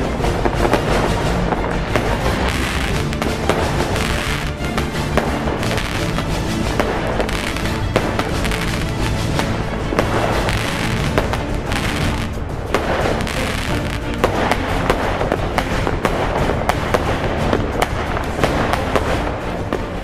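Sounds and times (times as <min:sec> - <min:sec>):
background music: 0:00.0 - 0:20.0
fireworks banging and crackling: 0:00.0 - 0:20.0.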